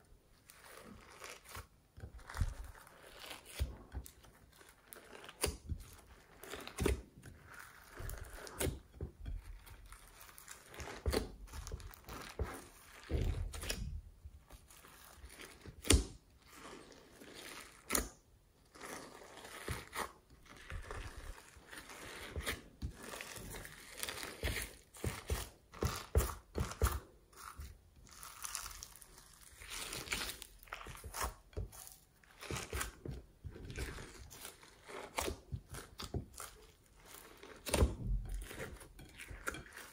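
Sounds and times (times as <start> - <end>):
wet slime squishing: 0.0 - 39.9.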